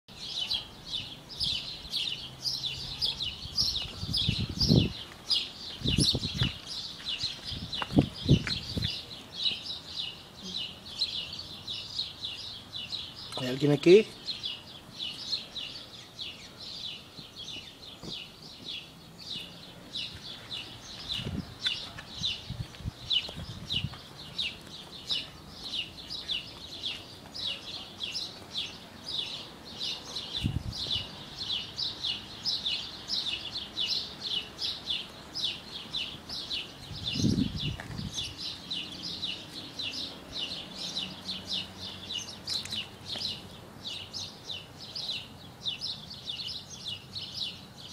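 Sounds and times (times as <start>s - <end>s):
bird chirping: 0.1s - 47.9s.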